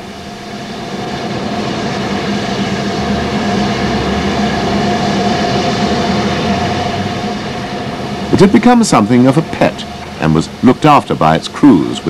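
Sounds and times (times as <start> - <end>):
steam locomotive rumbling hiss: 0.0 - 12.0.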